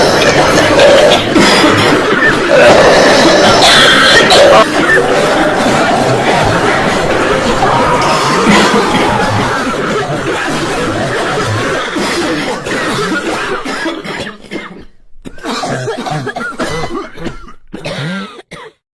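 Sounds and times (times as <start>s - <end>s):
crowd coughing: 0.0s - 18.8s.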